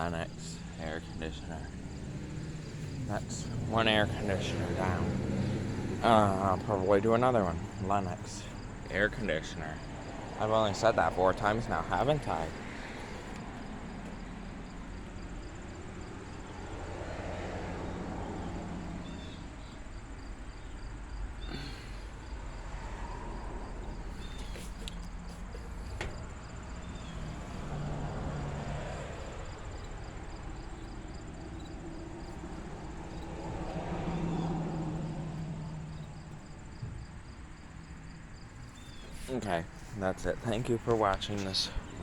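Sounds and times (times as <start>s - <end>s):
insects chirping: 0.0s - 42.0s.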